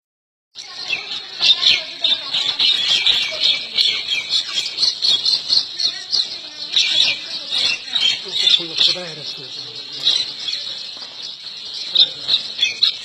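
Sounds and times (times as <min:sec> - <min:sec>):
birds squawking: 0:00.6 - 0:13.0.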